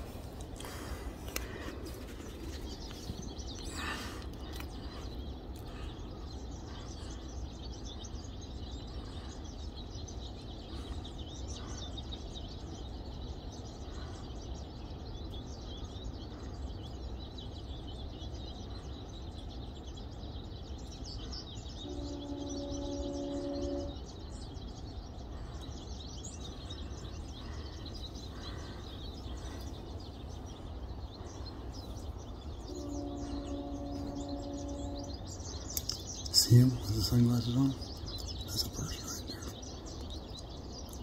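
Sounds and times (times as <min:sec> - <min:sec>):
low background rumble: 0:00.0 - 0:41.0
small birds chirping: 0:00.0 - 0:41.0.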